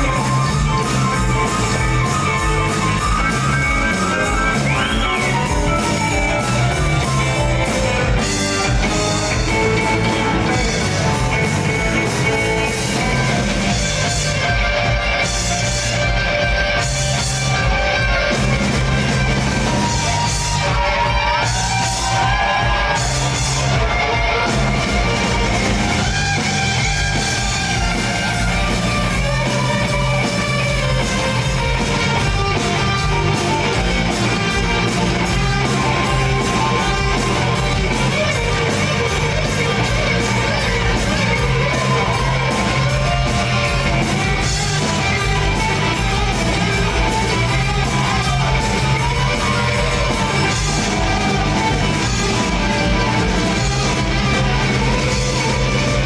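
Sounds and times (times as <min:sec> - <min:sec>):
electric guitar lead: 0:00.0 - 0:56.0
rock band playing: 0:00.0 - 0:56.0.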